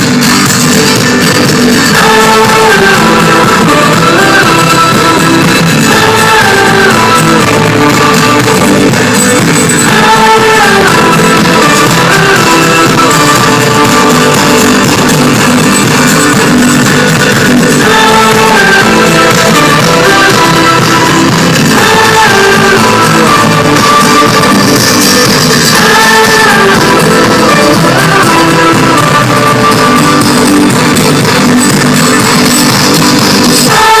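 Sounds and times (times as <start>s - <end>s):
pop-rock song with guitar: 0.1s - 34.0s.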